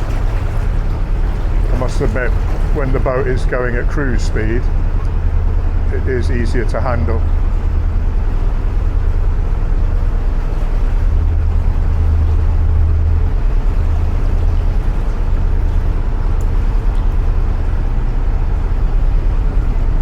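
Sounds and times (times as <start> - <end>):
diesel boat engine humming: 0.0 - 20.0.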